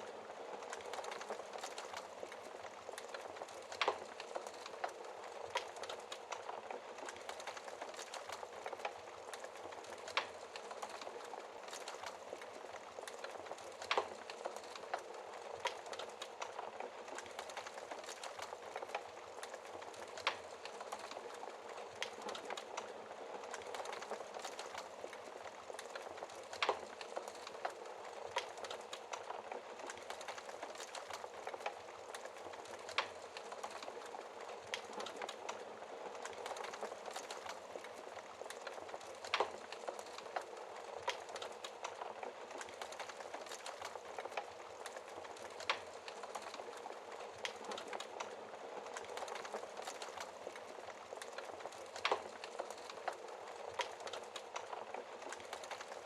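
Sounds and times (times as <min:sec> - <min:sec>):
fire crackling: 0:00.0 - 0:56.0
wood fire hissing: 0:00.0 - 0:56.0
fire popping: 0:00.1 - 0:56.0.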